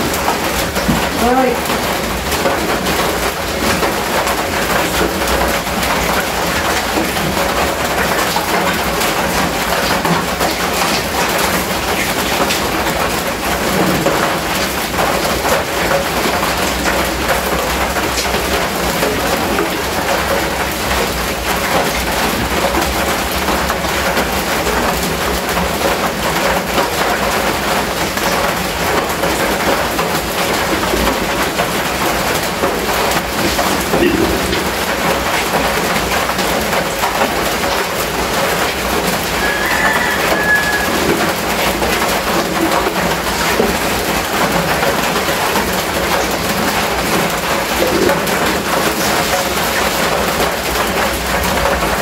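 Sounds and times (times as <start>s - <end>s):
heavy rain on a metal roof: 0.0s - 52.0s.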